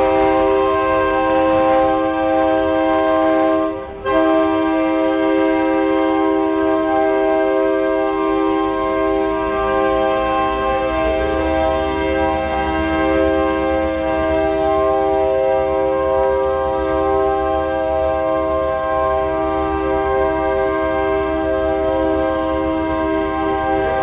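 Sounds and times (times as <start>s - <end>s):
locomotive air horn: 0.0s - 24.0s.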